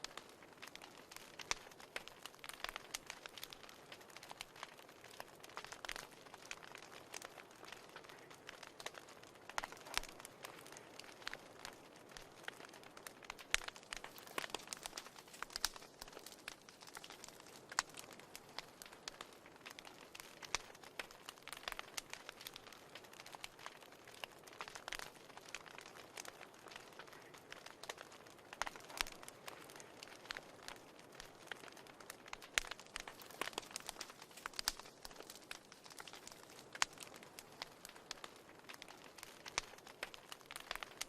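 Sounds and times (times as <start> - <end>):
fire crackling and popping: 0.0 - 41.0
soft steady hiss: 0.0 - 41.0.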